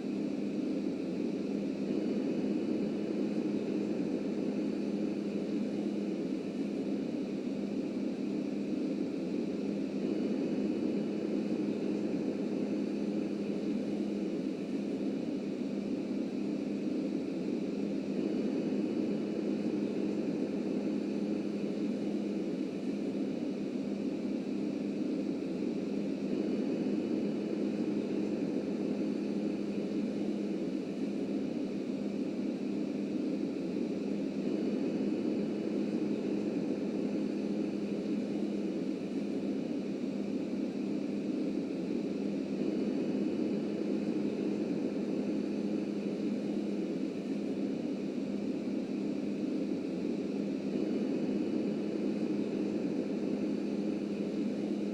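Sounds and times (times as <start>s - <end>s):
faint high whine: 0.0s - 54.9s.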